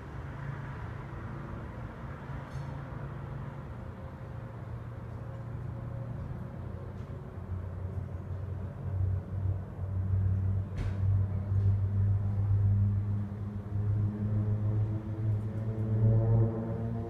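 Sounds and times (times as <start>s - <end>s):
propeller planes droning: 0.0s - 17.0s.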